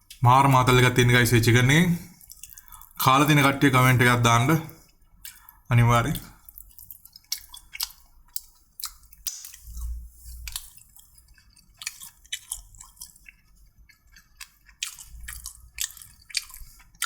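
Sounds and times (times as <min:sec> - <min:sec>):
person chewing food: 0:00.0 - 0:00.2, 0:02.0 - 0:03.1, 0:04.6 - 0:17.0.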